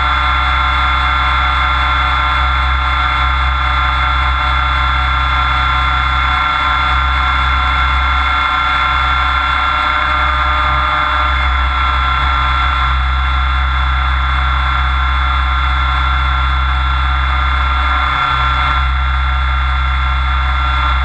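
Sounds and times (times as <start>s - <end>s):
high motor whine: 0.0s - 21.0s
steady low drone: 0.0s - 21.0s.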